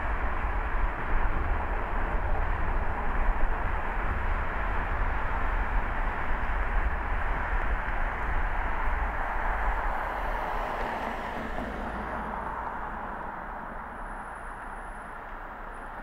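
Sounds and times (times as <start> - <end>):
car road and tyre noise: 0.0 - 16.0.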